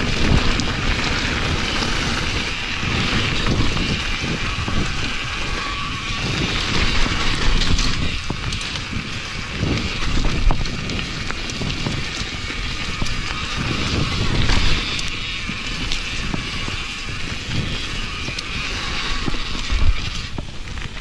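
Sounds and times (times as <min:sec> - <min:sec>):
wind rush on microphone: 0:00.0 - 0:21.0.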